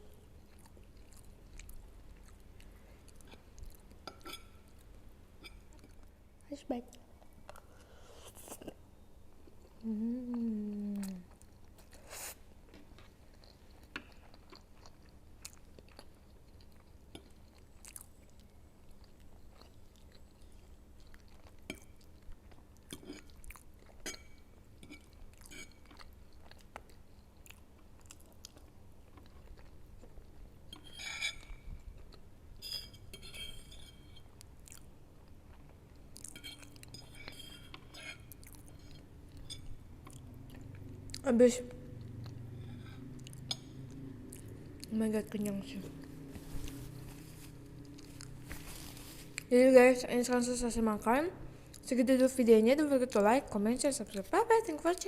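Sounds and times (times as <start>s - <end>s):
close chewing and mouth sounds: 0.2s - 49.6s.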